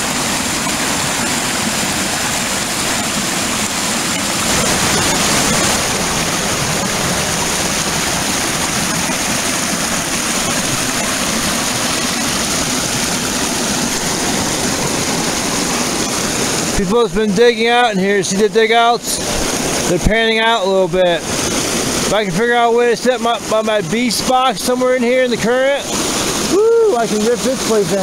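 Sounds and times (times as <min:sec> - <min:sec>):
creek rushing over boulders: 0:00.0 - 0:28.0.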